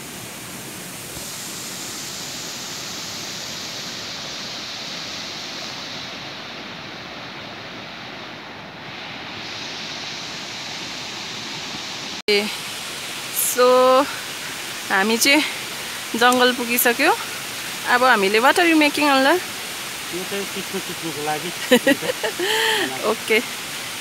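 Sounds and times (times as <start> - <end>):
stream rushing over stones: 0.0 - 24.0.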